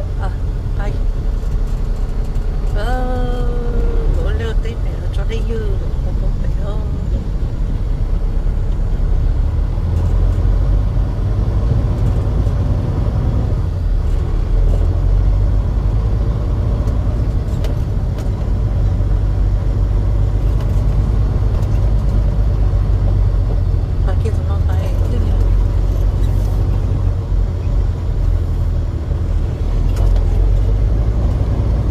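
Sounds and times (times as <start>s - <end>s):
vehicle engine rumbling: 0.0s - 31.9s.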